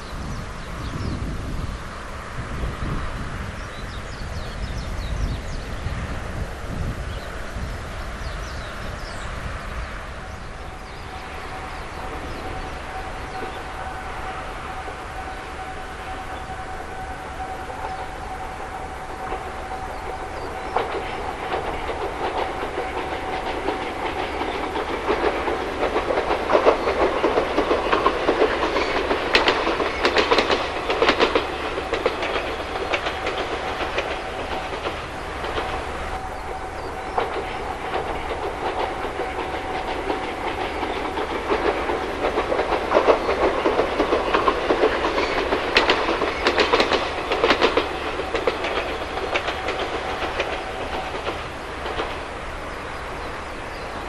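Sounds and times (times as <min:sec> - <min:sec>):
train rumble: 0:00.0 - 0:54.0
train wheels clacking over rail joints: 0:03.6 - 0:54.0.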